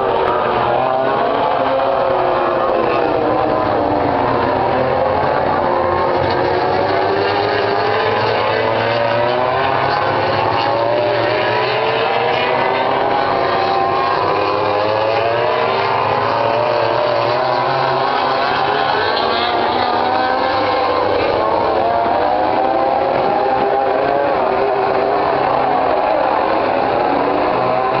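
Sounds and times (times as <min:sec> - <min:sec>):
racing motorcycles revving: 0:00.0 - 0:28.0.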